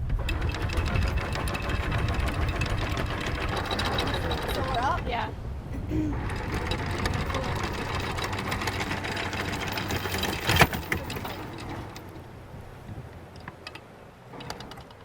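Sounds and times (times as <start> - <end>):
anchor chain clattering rattle: 0.0 - 5.3, 6.1 - 12.4, 13.2 - 15.0
low engine hum: 0.0 - 15.0.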